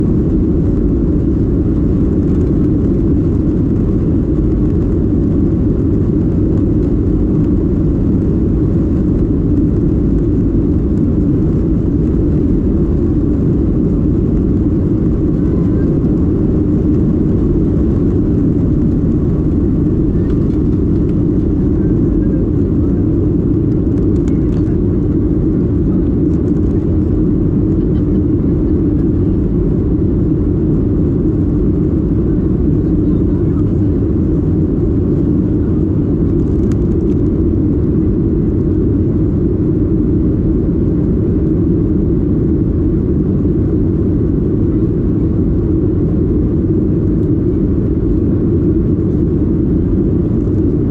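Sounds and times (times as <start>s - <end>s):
loud low rumble: 0.0s - 50.9s.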